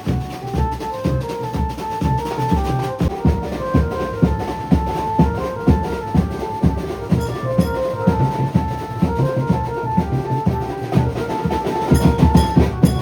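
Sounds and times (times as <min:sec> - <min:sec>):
driving drum beat: 0:00.0 - 0:13.0.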